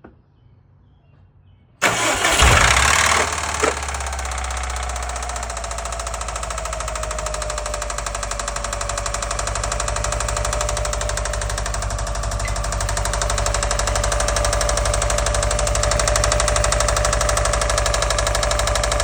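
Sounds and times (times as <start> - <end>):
car engine knocking chatter: 1.8 - 19.0.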